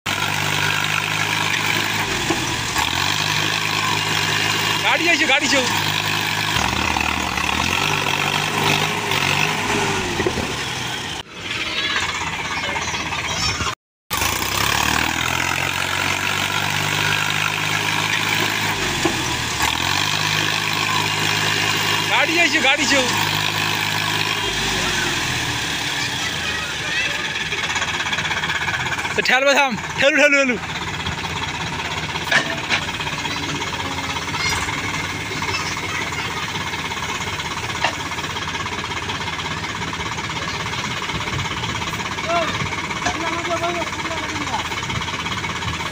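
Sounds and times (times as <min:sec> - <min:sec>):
tractor diesel engine under load: 0:00.0 - 0:45.9
backhoe digging mud: 0:00.1 - 0:11.3, 0:13.4 - 0:45.9.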